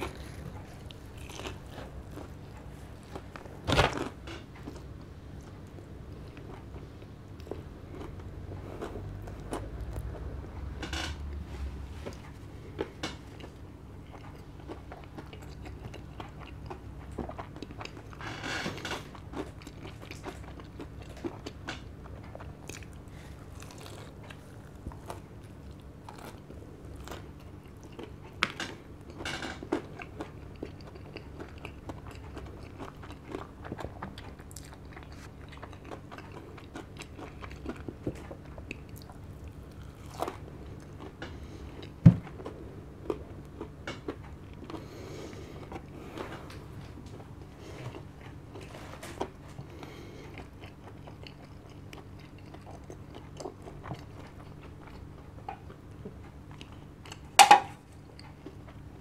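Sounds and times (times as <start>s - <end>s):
chewing crispy fried chicken: 0.0s - 11.1s, 12.0s - 59.0s.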